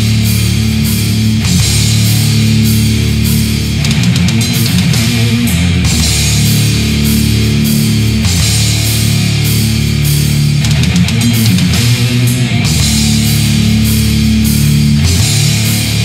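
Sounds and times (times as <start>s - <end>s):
distorted electric guitar riff: 0.0s - 16.0s
drums: 0.0s - 16.0s.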